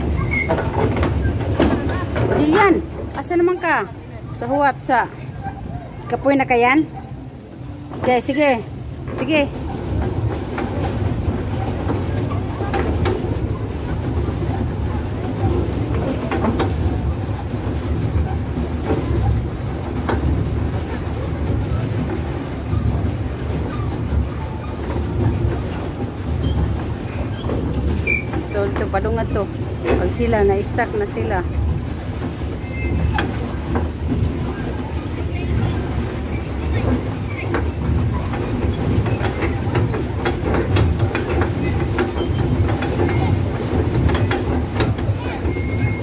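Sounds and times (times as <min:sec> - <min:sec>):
boat rumble and water wash: 0:00.0 - 0:46.0.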